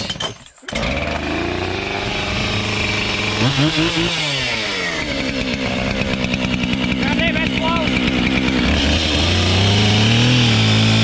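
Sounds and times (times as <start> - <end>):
chainsaw revving: 0.0 - 11.0
chainsaw starting and running: 0.0 - 11.0.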